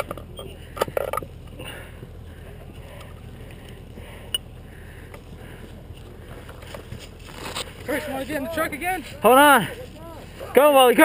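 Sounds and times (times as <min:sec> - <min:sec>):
footsteps crunching on dirt: 0:01.3 - 0:11.0.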